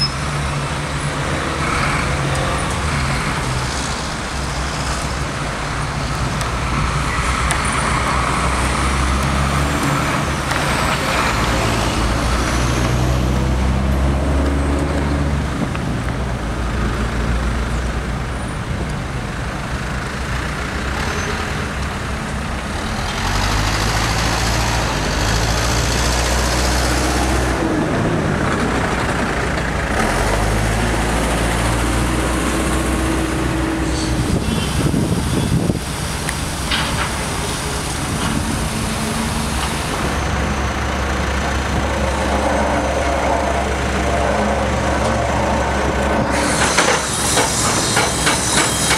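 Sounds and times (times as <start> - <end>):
construction machinery diesel engines: 0.0 - 48.9
traffic and work noise: 0.0 - 48.9.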